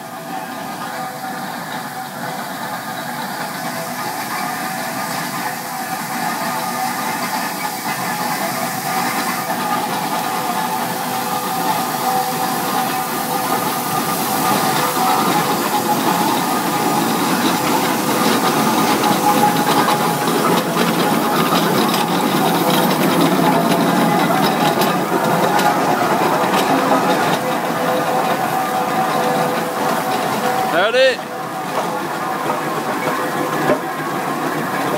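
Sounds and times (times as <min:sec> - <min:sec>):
hissing steam: 0:00.0 - 0:34.9
steam engine running: 0:00.0 - 0:34.9.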